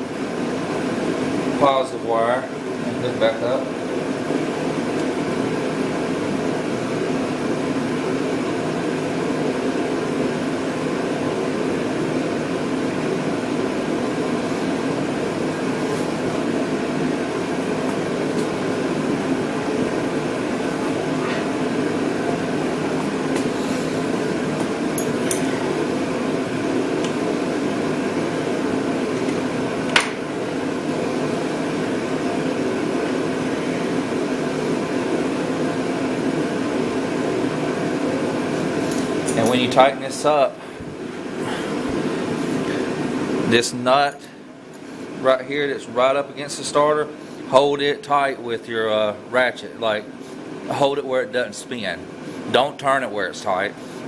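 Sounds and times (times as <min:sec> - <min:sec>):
mechanical background hum: 0:00.0 - 0:54.0.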